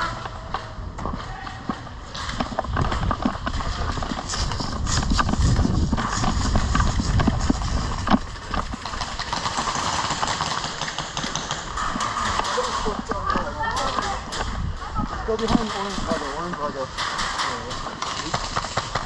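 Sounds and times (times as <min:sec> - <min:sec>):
running footsteps: 0:00.0 - 0:19.0
gear rattling: 0:02.0 - 0:19.0.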